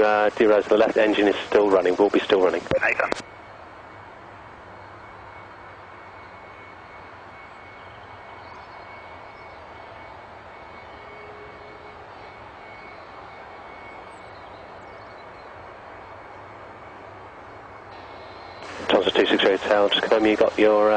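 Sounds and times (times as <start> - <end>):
jet engine running: 0.0 - 20.9.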